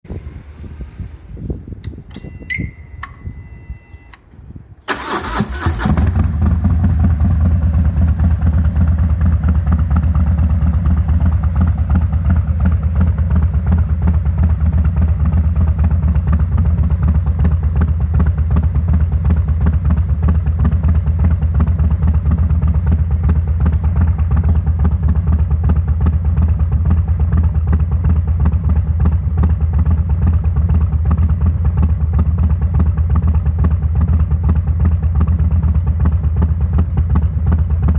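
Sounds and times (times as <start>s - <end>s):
motorcycle engine starting: 1.8s - 37.9s
motorcycle engine idling: 5.0s - 37.9s.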